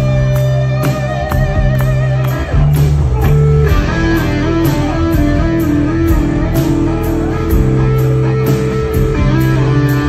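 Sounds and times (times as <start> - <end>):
bass guitar: 0.0 - 10.0
drums striking: 0.0 - 10.0
electric guitar long vibrato note: 0.0 - 10.0.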